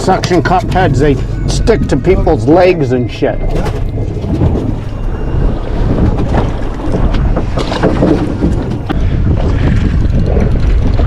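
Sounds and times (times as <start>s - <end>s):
water splashes: 0.0s - 9.6s
wind buffeting microphone: 0.0s - 11.0s.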